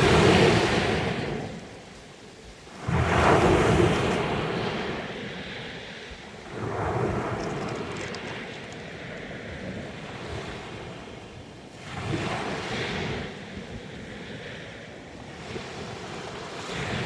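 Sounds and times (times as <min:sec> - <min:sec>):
waves washing onto stony shore: 0:00.0 - 0:17.0.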